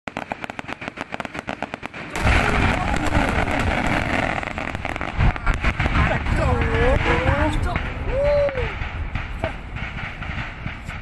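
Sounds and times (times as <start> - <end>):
firecrackers popping: 0.1 - 11.0
low booming: 0.3 - 11.0.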